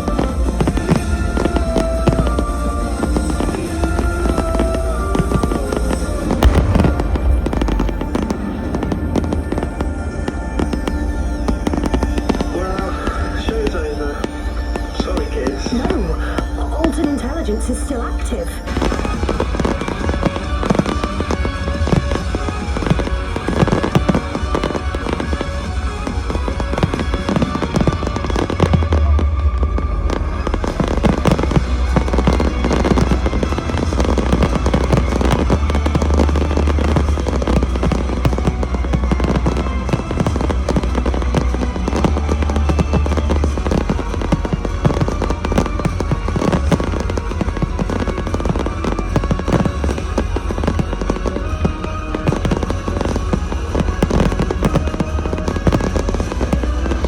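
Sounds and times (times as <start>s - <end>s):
fireworks bursting and crackling: 0.0s - 57.0s
loud music with deep bass: 0.0s - 57.0s.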